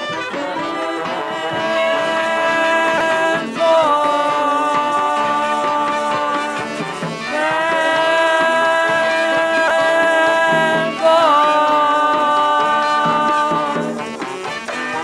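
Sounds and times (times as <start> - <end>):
brass band holding chords: 0.0 - 15.0.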